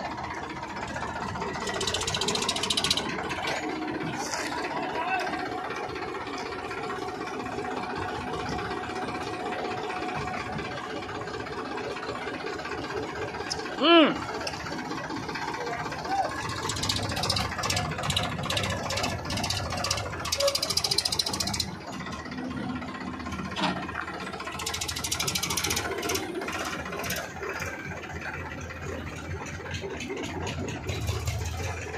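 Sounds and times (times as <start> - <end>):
tractor diesel engine clattering: 0.0 - 31.9.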